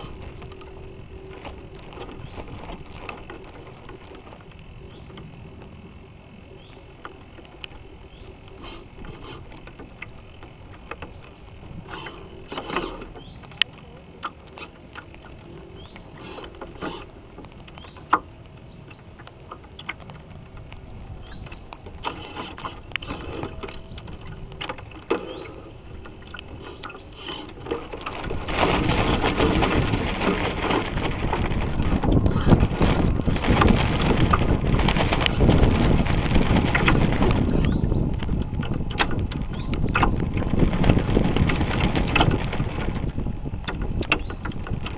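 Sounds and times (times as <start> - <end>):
small ticks and knocks: 0.0 - 5.8, 6.6 - 44.9
low rumble: 0.0 - 44.9
water and wind rushing: 0.0 - 44.9.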